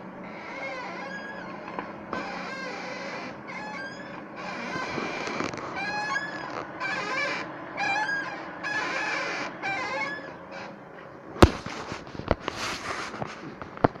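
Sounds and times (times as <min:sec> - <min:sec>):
steering squeaking creak: 0:00.0 - 0:14.0.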